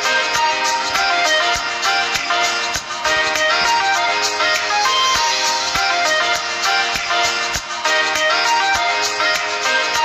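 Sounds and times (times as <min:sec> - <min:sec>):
steady beat: 0:00.3 - 0:08.8.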